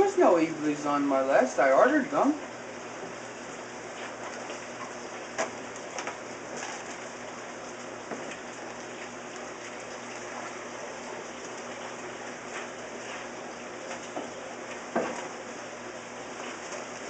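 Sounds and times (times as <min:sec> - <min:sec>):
running water splashing: 0:00.0 - 0:17.0.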